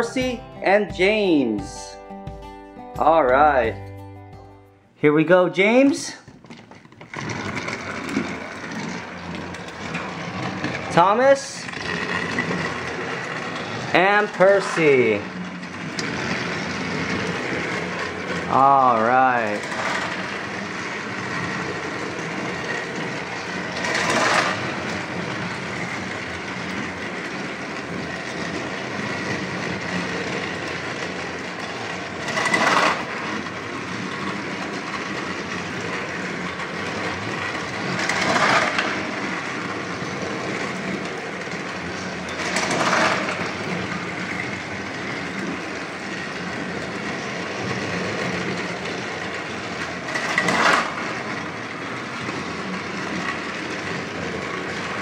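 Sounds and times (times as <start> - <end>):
toy train motor whir: 5.9 - 55.0
toy train wheel clatter: 5.9 - 55.0.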